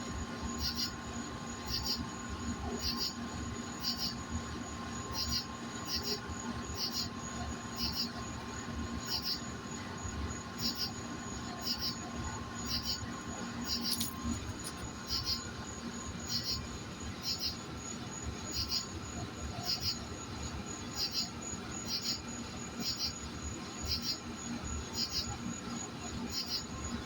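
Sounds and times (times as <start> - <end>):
cricket chirping: 0.0 - 27.0
high-pitched insect drone: 0.5 - 4.2, 5.0 - 8.2, 8.9 - 23.2, 23.8 - 26.9.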